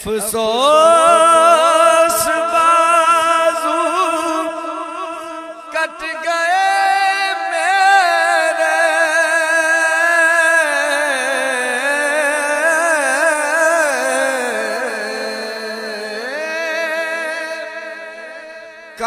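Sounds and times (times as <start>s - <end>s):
man singing long melisma: 0.0s - 19.0s.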